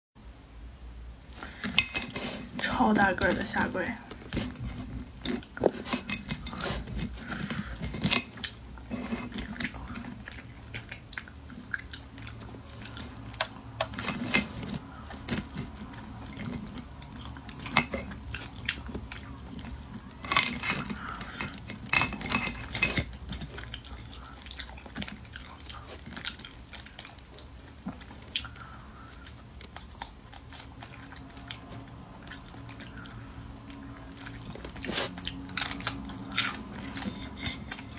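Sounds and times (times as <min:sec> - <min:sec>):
chewing: 0:01.4 - 0:37.9
crustacean shells cracking: 0:04.2 - 0:37.9.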